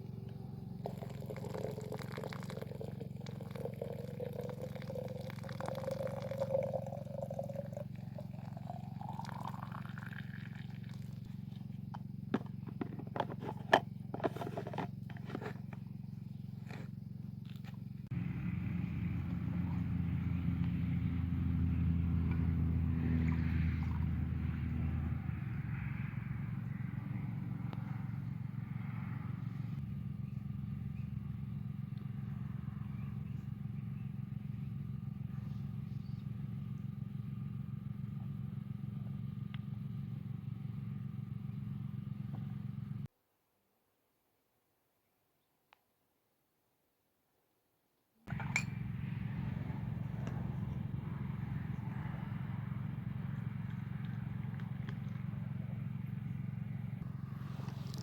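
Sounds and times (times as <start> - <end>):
engine humming: 0.0 - 43.1, 48.3 - 58.0.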